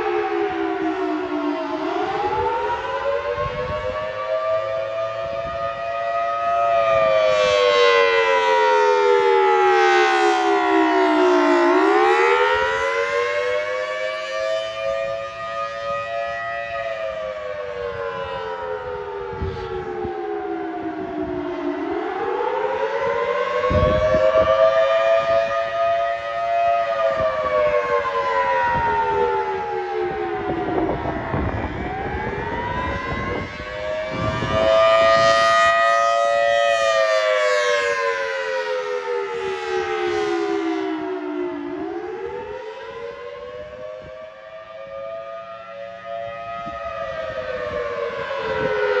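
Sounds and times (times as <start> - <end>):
warning siren wailing: 0.0 - 49.0.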